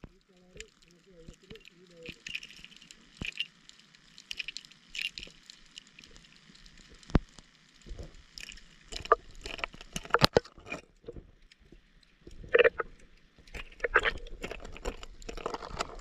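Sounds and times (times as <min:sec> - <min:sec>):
lure rattle clicking underwater: 0:00.0 - 0:11.7, 0:12.5 - 0:16.0
bubbling water: 0:00.0 - 0:16.0.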